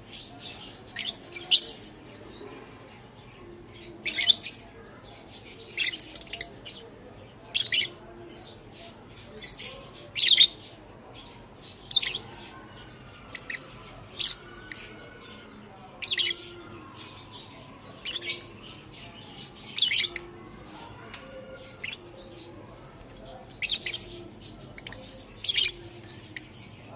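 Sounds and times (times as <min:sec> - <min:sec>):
lovebirds chirping: 0:00.0 - 0:26.9.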